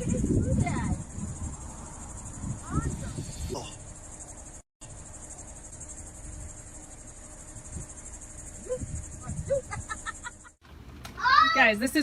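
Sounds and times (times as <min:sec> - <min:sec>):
crickets chirring: 0:00.0 - 0:10.6.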